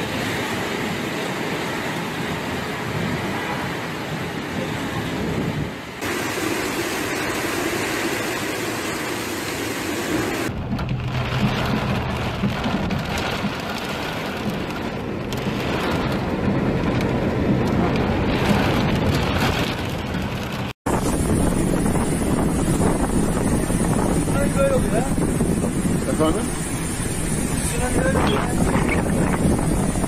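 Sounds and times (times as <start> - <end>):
heavy rain pouring: 0.0 - 30.0
rain beating on a car: 5.9 - 30.0.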